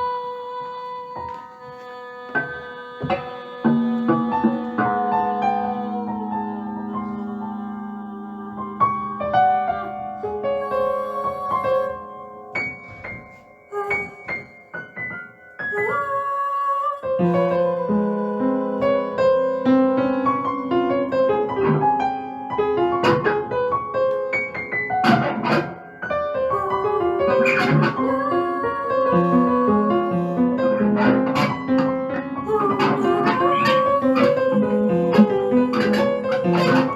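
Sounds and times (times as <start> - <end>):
experimental piano playing: 0.0 - 36.9.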